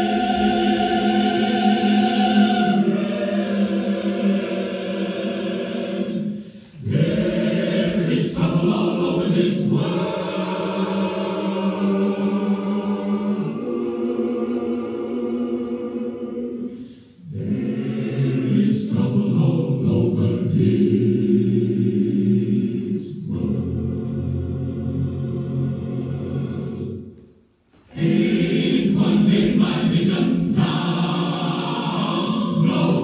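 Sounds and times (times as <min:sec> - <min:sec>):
choir singing slow sustained chords: 0:00.0 - 0:27.2, 0:27.9 - 0:33.0.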